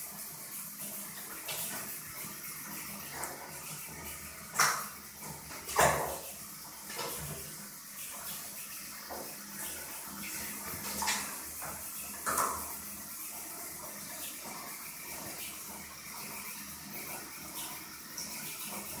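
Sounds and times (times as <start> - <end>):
water lapping and splashing: 0.0 - 19.0.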